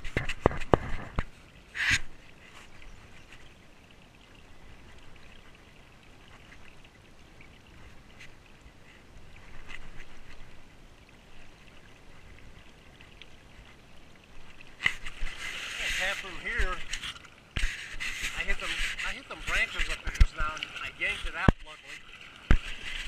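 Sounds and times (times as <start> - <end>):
river water trickling: 0.0 - 23.0.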